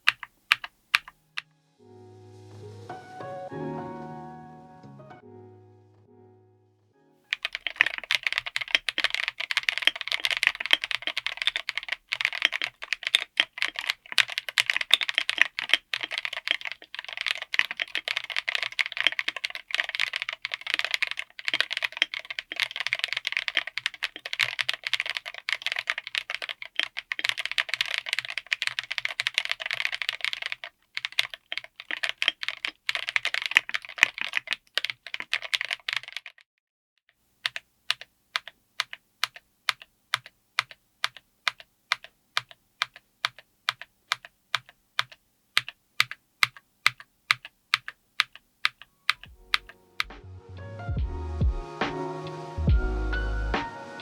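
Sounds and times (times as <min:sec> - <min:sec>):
fast mechanical keyboard typing: 0:00.0 - 0:01.4, 0:07.3 - 0:36.4, 0:37.4 - 0:50.1.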